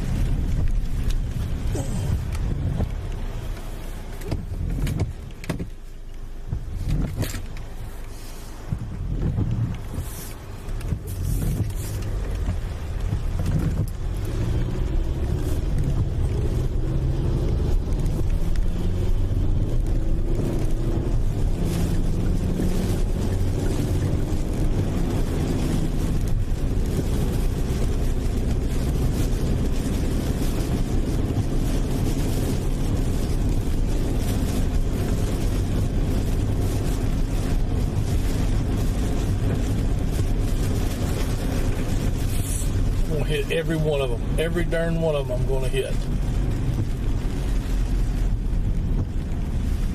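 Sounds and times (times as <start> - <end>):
car engine and road rumble: 0.0 - 49.9.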